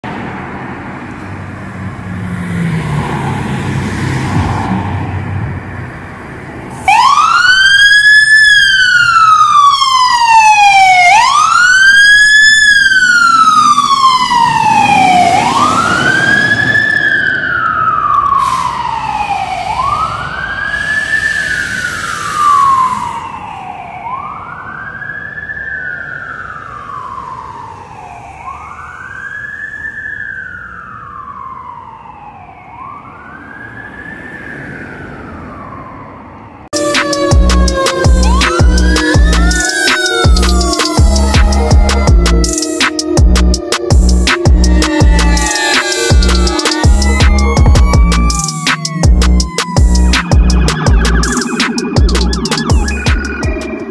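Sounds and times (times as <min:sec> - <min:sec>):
fire engine siren wailing: 0:02.5 - 0:53.9.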